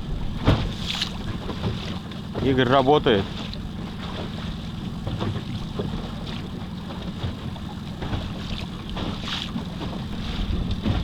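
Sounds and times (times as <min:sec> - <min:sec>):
water lapping against boat hull: 0:00.0 - 0:11.0
wind buffeting microphone: 0:00.0 - 0:11.0.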